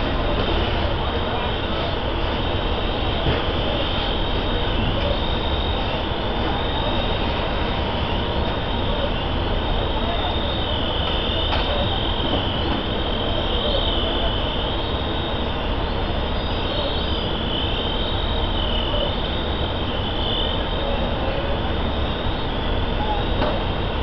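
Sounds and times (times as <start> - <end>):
fire engine pump rumble: 0.0 - 24.0
high wavering whine: 0.0 - 24.0.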